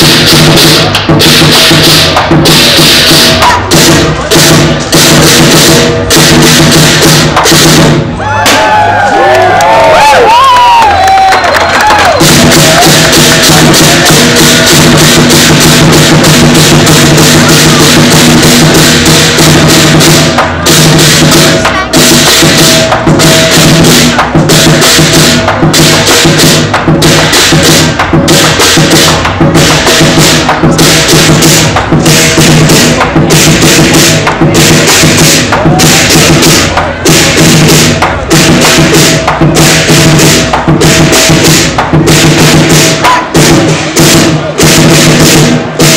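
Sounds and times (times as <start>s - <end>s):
percussion ensemble drum and cymbals: 0.0s - 45.9s.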